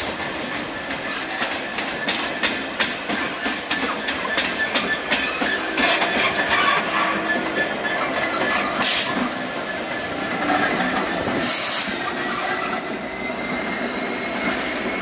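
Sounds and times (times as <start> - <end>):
diesel locomotive engine: 0.0 - 15.0
wheels clattering over rail joints: 0.0 - 15.0.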